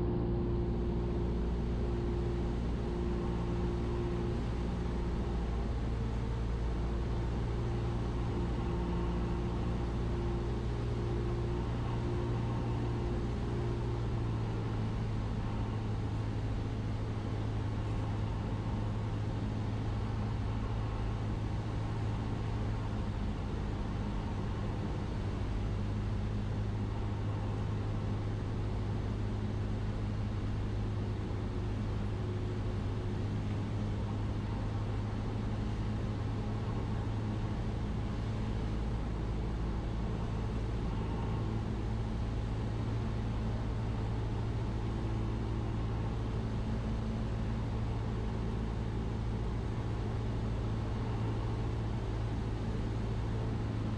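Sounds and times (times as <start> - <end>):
propeller plane engine droning: 0.0 - 53.9.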